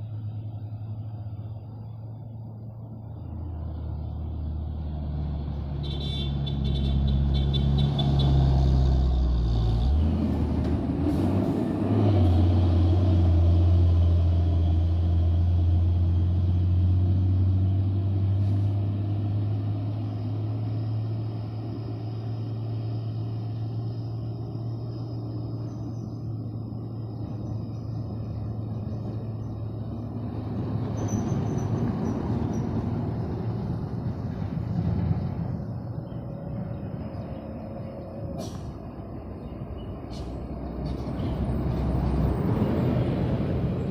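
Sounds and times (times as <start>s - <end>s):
dump truck diesel engine: 0.0s - 43.9s.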